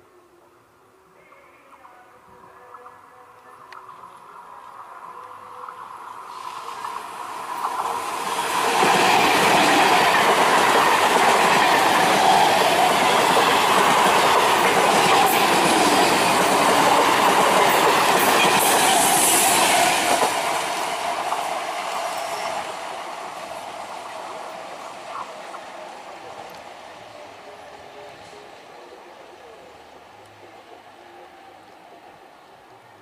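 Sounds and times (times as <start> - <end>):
train passing at speed: 4.0 - 33.0.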